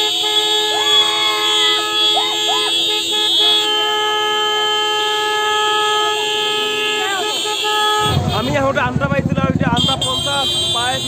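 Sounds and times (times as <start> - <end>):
vehicle horns honking: 0.0 - 9.0, 9.6 - 11.0
voices calling: 0.0 - 11.0.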